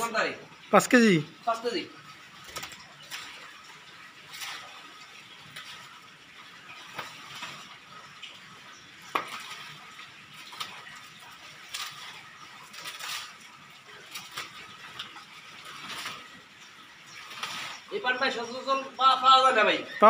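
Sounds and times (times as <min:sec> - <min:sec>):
leaves rustling: 0:00.0 - 0:20.0.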